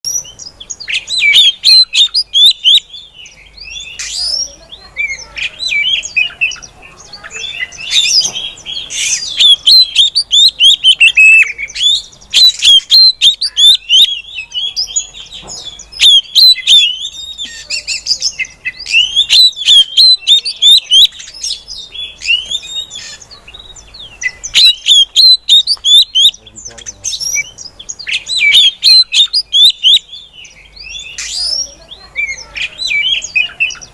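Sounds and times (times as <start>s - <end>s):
bird chirping and whistling: 0.1s - 33.9s.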